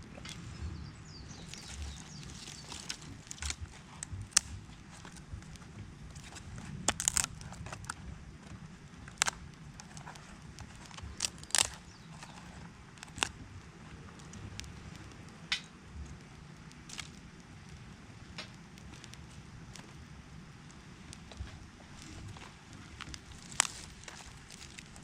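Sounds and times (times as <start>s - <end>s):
low steady rumble: 0.0s - 25.0s
campfire crackling and popping: 1.1s - 25.0s.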